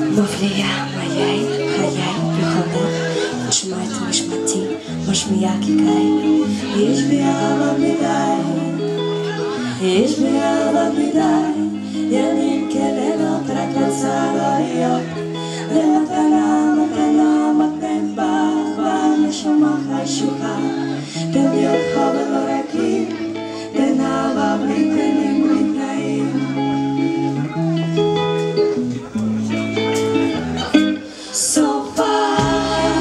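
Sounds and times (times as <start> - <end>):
band accompanying: 0.0 - 20.8, 21.4 - 33.0
woman singing into a microphone: 0.0 - 27.4, 30.9 - 33.0.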